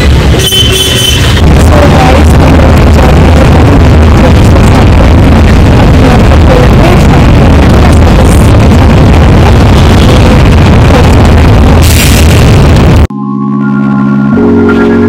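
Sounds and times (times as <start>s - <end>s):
bus engine rumbling: 0.0s - 13.1s
road noise: 0.0s - 13.1s
wind through open window: 0.0s - 13.1s.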